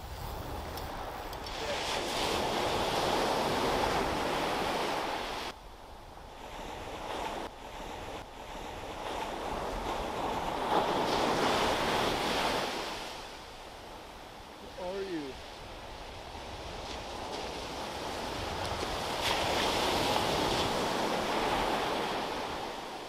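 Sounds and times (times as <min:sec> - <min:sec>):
ocean surf rushing onto beach: 0:00.0 - 0:05.5, 0:06.4 - 0:23.0.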